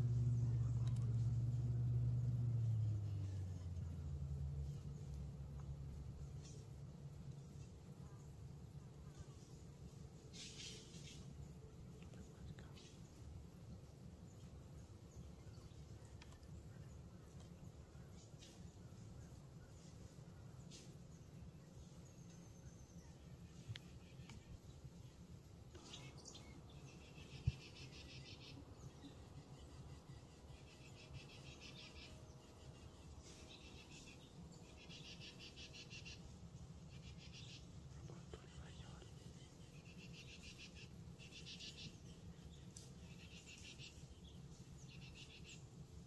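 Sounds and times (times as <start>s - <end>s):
faint low wind rumble: 0.0s - 46.0s.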